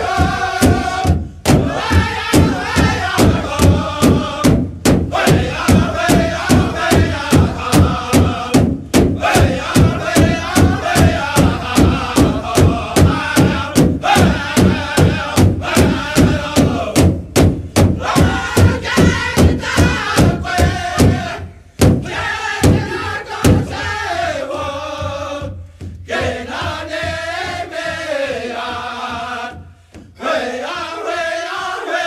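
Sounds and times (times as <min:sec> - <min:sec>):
group chanted singing: 0:00.0 - 0:17.2, 0:17.8 - 0:32.0
drum beating: 0:00.0 - 0:31.8.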